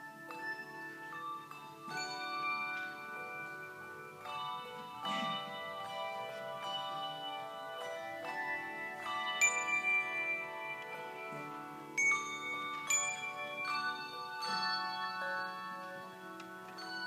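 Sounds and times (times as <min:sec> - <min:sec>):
handbell choir playing: 0:00.0 - 0:17.0.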